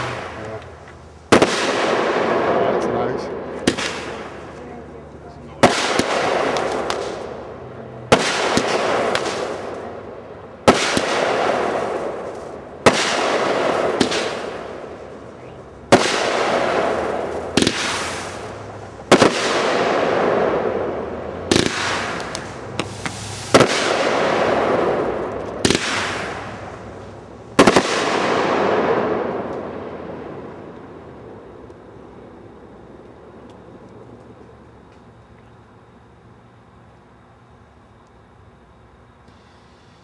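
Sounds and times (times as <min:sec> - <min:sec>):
small fireworks pops: 0:00.0 - 0:29.8, 0:30.4 - 0:32.2, 0:32.9 - 0:35.7, 0:39.2 - 0:40.0
fireworks bangs: 0:00.0 - 0:35.1.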